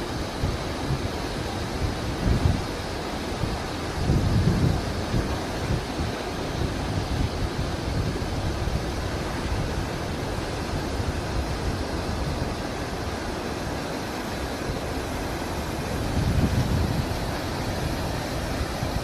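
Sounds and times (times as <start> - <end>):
waterfall rushing: 0.0 - 19.0
wind buffeting microphone: 0.2 - 13.3, 14.4 - 19.0.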